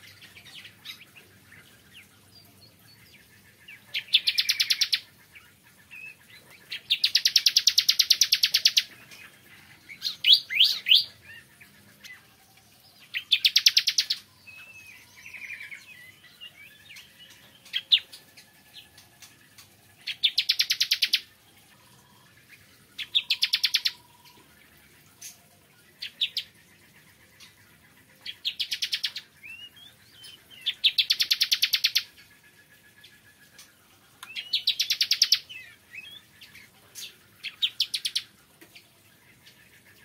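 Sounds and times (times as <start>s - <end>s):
prinia pulsed trills: 0.0s - 40.0s.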